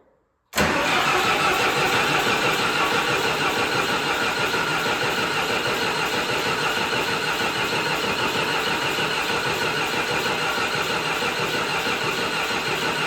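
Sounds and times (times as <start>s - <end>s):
diesel engine cranking on starter: 0.6s - 13.0s.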